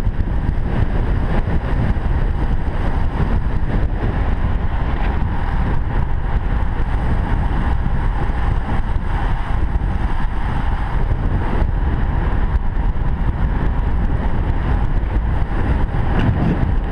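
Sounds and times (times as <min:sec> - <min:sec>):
wind rumbling on microphone: 0:00.0 - 0:16.9.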